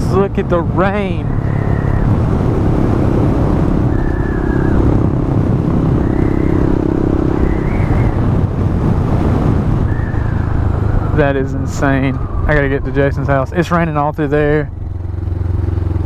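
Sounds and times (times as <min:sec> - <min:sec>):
small motorcycle engine cruising: 0:00.0 - 0:16.0
wind rush on microphone: 0:00.0 - 0:16.0.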